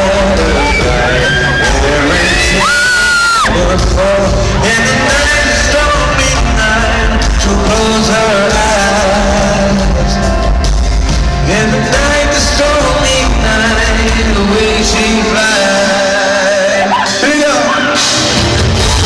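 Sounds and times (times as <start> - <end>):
live pop band playing: 0.0 - 19.0
person singing: 0.0 - 19.0.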